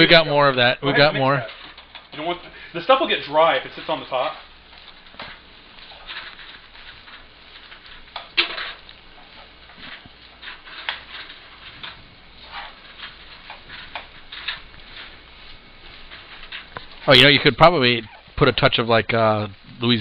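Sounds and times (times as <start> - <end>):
spatula scraping frying pan: 1.1 - 18.4.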